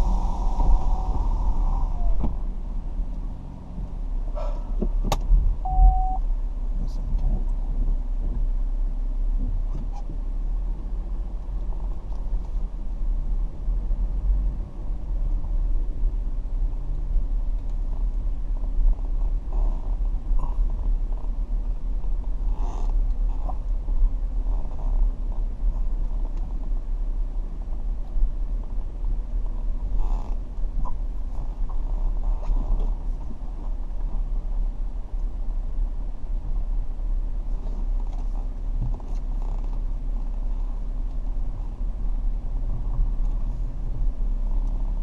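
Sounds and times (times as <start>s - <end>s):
car driving rumble: 0.0s - 45.0s.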